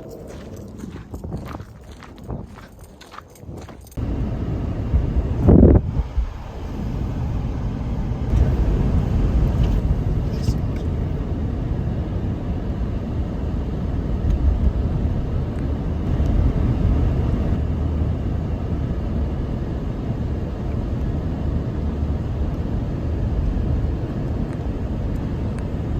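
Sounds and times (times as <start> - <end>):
low rumbling noise: 0.0 - 25.9.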